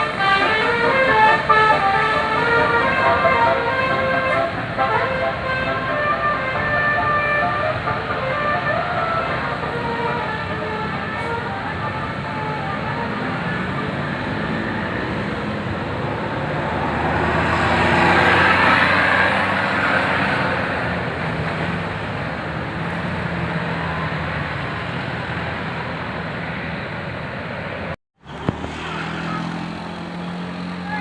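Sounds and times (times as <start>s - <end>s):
traffic rumble: 0.0s - 31.0s
vehicle passing: 0.0s - 31.0s.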